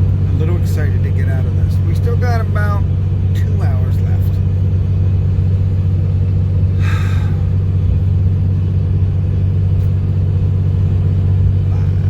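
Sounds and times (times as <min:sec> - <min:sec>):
truck driving on highway: 0:00.0 - 0:12.0.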